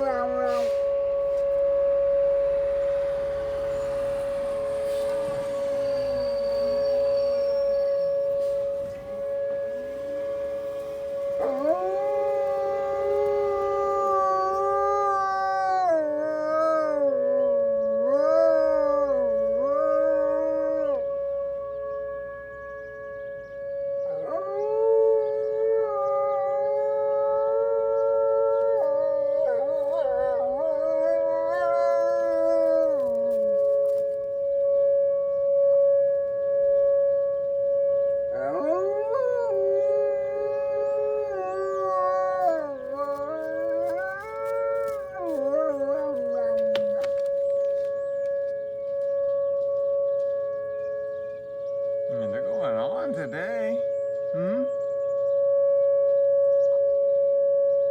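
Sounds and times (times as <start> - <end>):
wolfdog howling: 0.0 - 36.2, 38.1 - 57.9.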